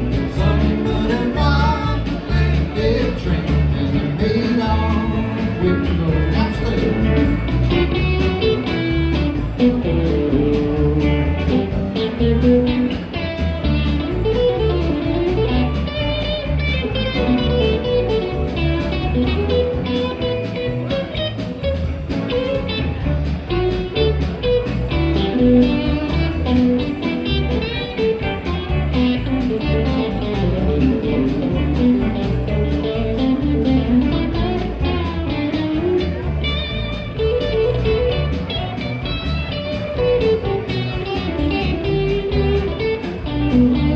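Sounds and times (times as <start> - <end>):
bass line: 0.0 - 43.9
picked guitar lead: 0.0 - 43.9
steady drum beat: 0.0 - 43.9.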